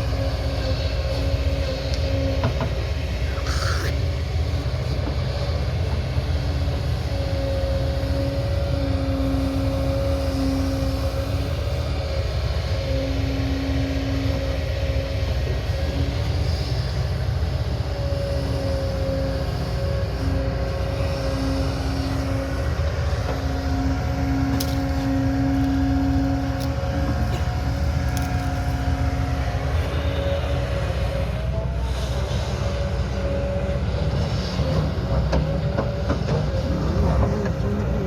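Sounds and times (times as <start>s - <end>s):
diesel engine rumbling with whine: 0.0s - 38.0s.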